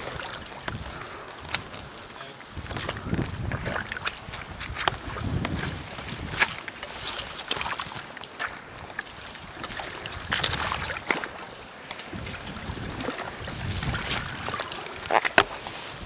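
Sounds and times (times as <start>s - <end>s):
footsteps splashing through mud: 0.0s - 16.0s.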